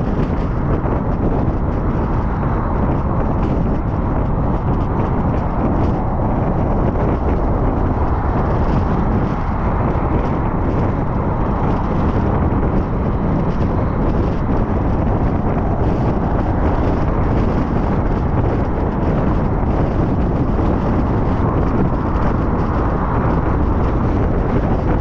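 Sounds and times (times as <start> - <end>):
tyres on road: 0.0 - 25.0
wind rushing past car: 0.0 - 25.0.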